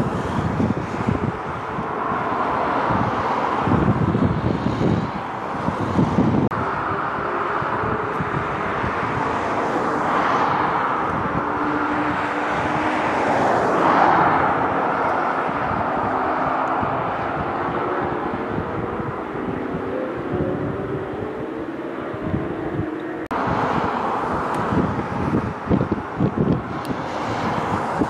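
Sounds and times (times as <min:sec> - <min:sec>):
jet engines on runway: 0:00.0 - 0:28.0
wind buffeting microphone: 0:00.0 - 0:28.0.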